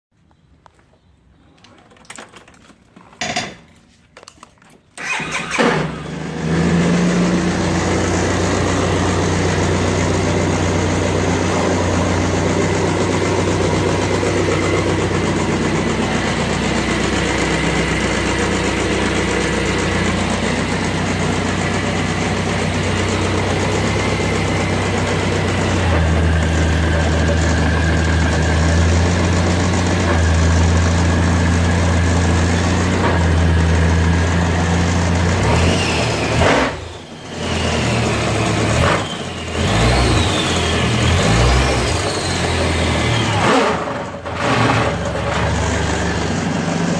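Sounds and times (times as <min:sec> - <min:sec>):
scooter engine starting and running: 0:04.8 - 0:46.9.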